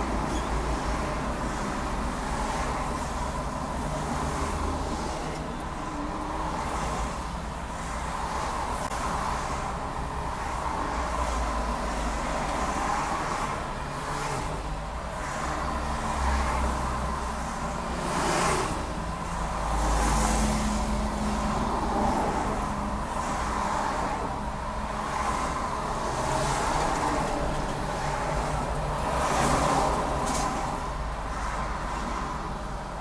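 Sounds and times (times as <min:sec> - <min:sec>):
car engine and tyre rumble: 0:00.0 - 0:33.0
vehicles passing by: 0:00.0 - 0:33.0.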